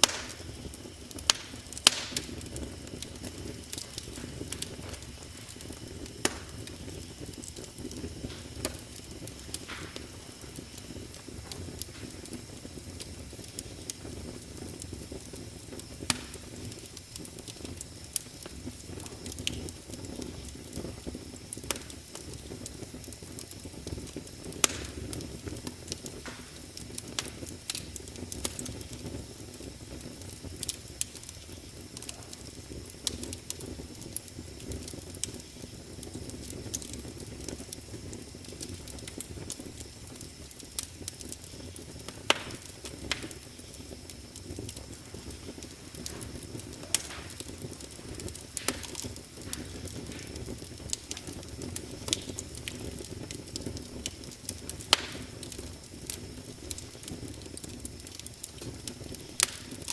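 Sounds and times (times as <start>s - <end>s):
fire pops and snaps: 0.0s - 59.9s
wood fire burning: 0.0s - 59.9s.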